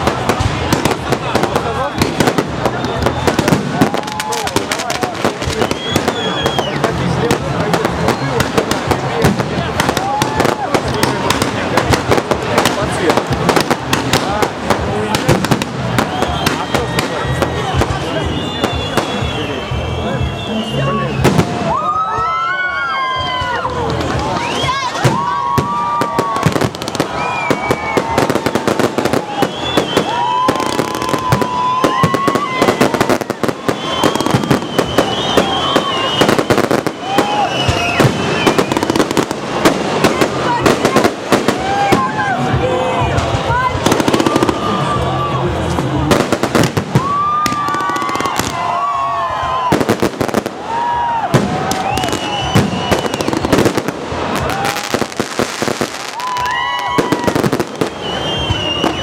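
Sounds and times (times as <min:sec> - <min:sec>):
fireworks whistling: 0:00.0 - 0:22.3, 0:23.0 - 0:59.0
fireworks crackling and popping: 0:00.0 - 0:59.0.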